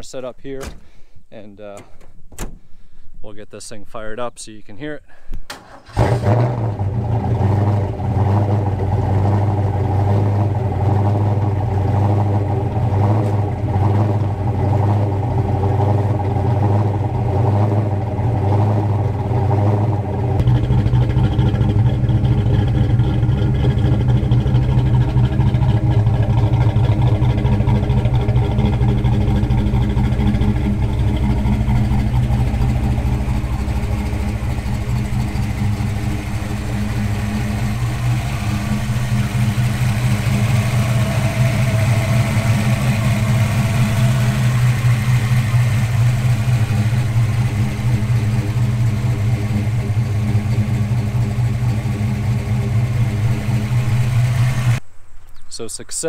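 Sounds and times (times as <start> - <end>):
car engine idling: 5.1 - 54.8.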